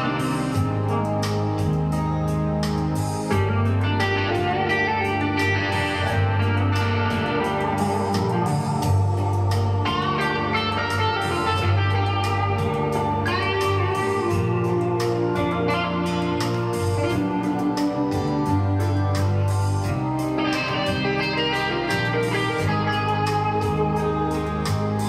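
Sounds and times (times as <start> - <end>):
guitar music with deep bass notes: 0.0 - 25.0.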